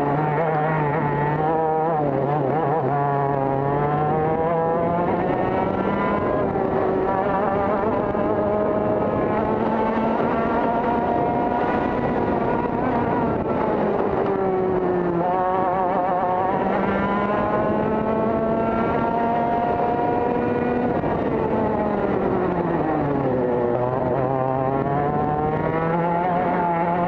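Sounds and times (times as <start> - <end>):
kart engine revving: 0.0 - 27.0.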